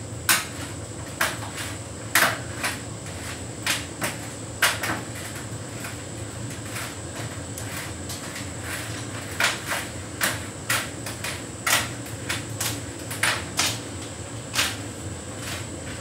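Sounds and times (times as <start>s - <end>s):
tumble dryer humming: 0.0s - 16.0s.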